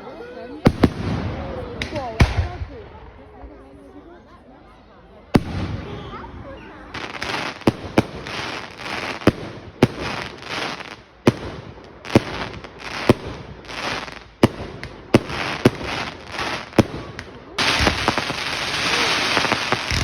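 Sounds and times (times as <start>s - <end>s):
fireworks bangs: 0.6s - 3.0s, 5.4s - 20.0s
fireworks crackling and hissing: 0.6s - 3.6s, 5.4s - 20.0s.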